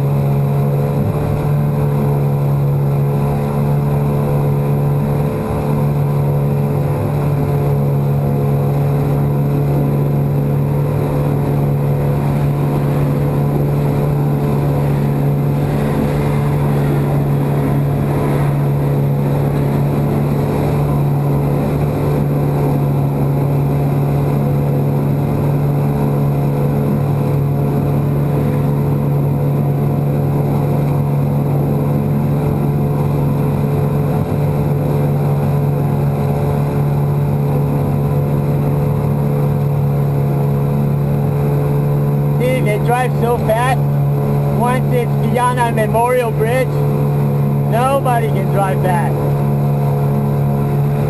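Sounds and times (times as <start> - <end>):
outboard motor running: 0.0 - 51.0.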